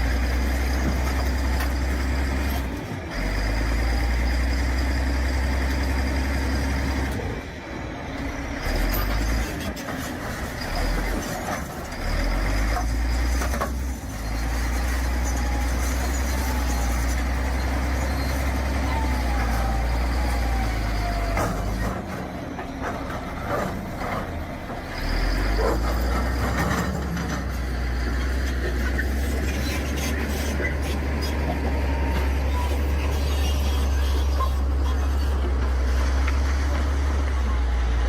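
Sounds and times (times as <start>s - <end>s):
diesel machinery engine rumble: 0.0s - 38.0s.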